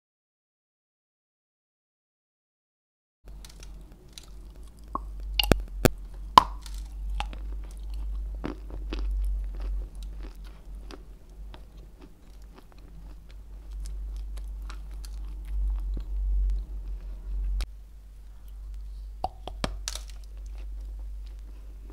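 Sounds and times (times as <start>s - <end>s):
low microphone hum: 3.3s - 21.9s
chalk crunching and chewing: 3.4s - 17.6s, 18.3s - 21.9s.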